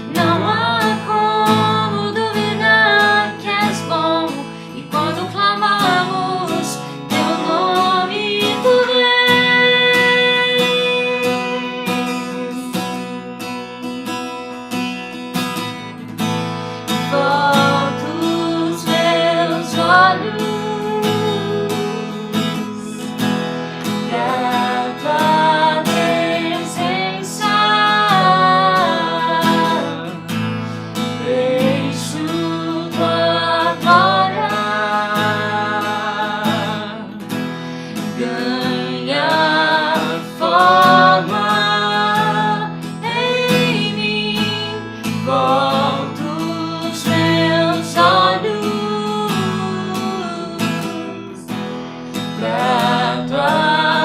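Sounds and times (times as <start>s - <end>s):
person singing: 0.0s - 14.1s, 17.0s - 23.2s, 23.9s - 30.4s, 31.2s - 37.3s, 37.9s - 51.5s, 52.3s - 54.0s
strummed acoustic guitar: 0.0s - 54.0s.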